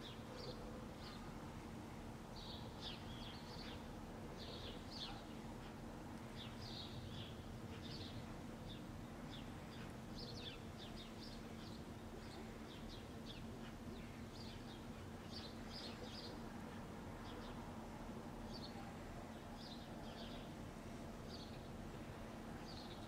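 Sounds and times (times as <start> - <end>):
faint low hum: 0.0 - 23.0
small birds chirping: 0.0 - 23.0.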